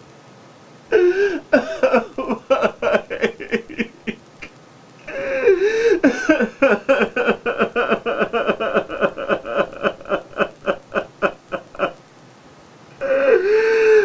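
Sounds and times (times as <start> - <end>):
man wailing and sobbing: 0.9 - 4.2, 5.0 - 12.0, 13.0 - 14.0.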